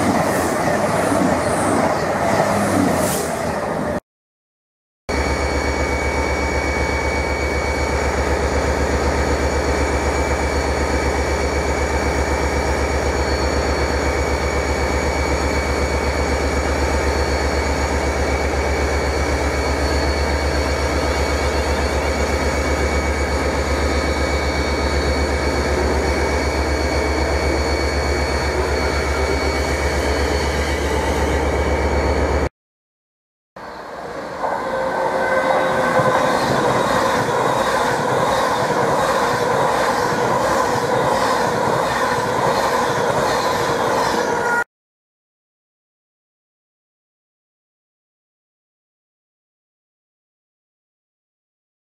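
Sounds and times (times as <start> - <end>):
electric train hum and whine: 0.0 - 4.0, 5.1 - 32.5, 33.6 - 44.7.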